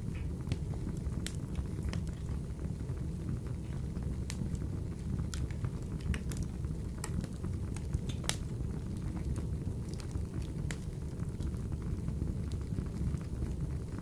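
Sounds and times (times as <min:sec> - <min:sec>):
wood stove fire crackling: 0:00.0 - 0:14.0.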